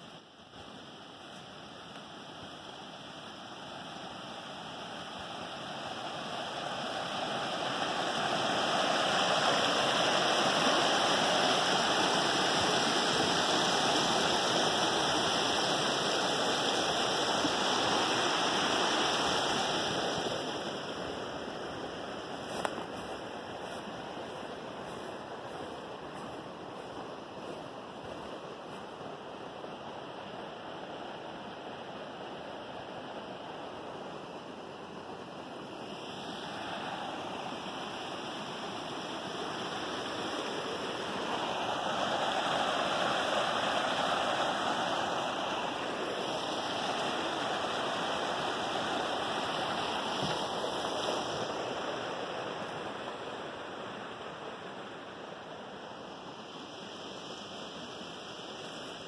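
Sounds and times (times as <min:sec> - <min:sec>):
stream rushing over boulders: 0:00.0 - 0:59.0.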